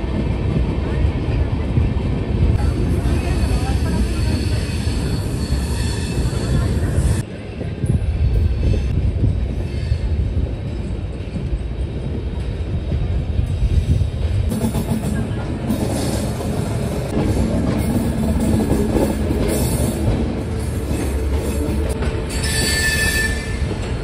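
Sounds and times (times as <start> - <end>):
train coach rumbling on rails: 0.0 - 24.0.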